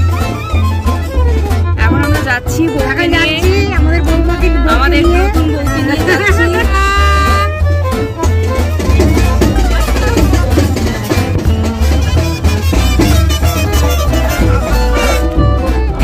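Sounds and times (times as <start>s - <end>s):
music with heavy bass beat: 0.0s - 16.0s.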